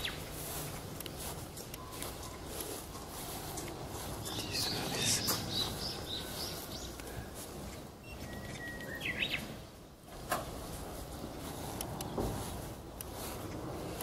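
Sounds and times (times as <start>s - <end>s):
birds chirping: 0.0s - 13.8s
outdoor background noise: 0.0s - 14.0s.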